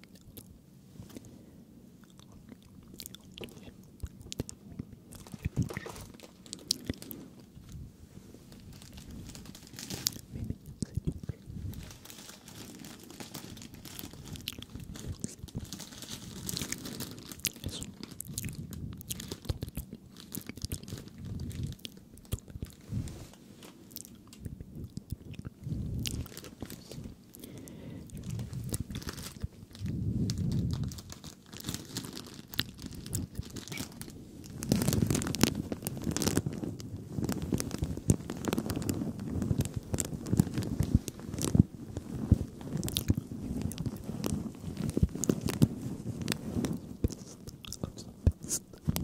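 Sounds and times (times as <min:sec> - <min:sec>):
close crunching and clicking: 0:00.0 - 0:00.5, 0:02.0 - 0:07.8, 0:08.5 - 0:49.0.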